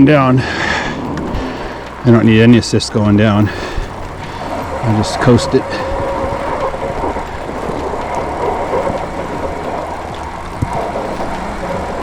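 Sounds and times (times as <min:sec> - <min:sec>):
bicycle road noise rumbling: 0:00.0 - 0:12.0.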